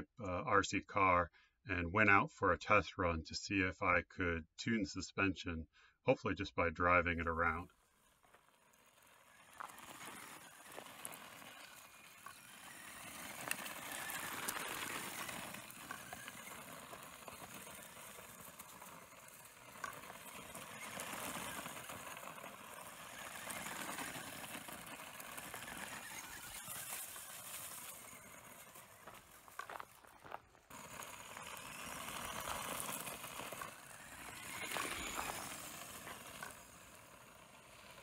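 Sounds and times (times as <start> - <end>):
toy car tyres crunching on gravel: 7.3 - 38.0.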